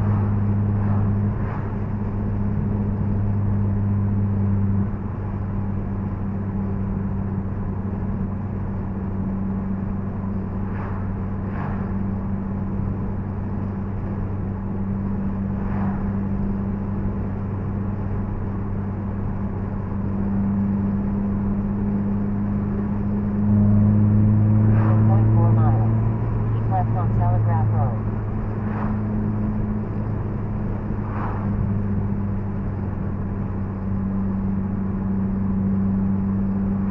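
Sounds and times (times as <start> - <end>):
car engine drone from inside: 0.0 - 36.9
tyre and road noise: 0.0 - 36.9.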